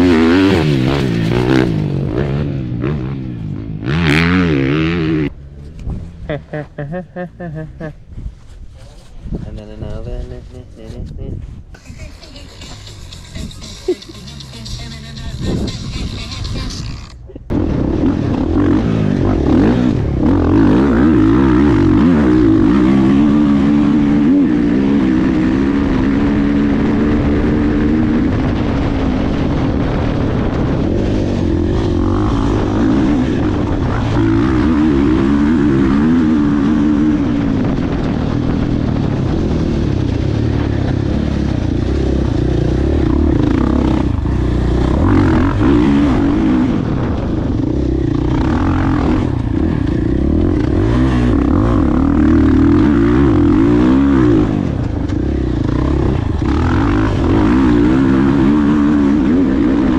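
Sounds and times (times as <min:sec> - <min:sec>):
dirt bike engine revving: 0:00.0 - 0:08.0, 0:12.0 - 0:59.9.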